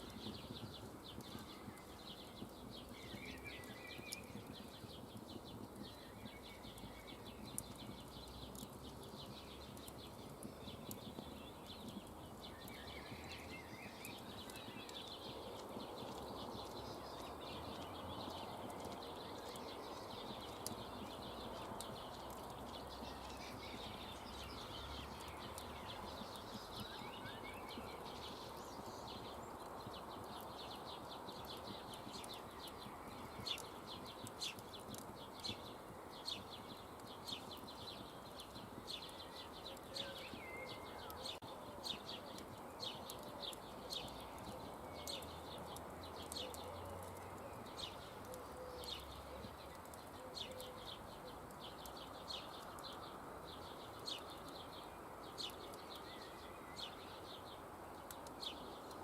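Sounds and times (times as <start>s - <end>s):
birds chirping: 0.0s - 59.0s
campfire crackling: 0.0s - 59.0s.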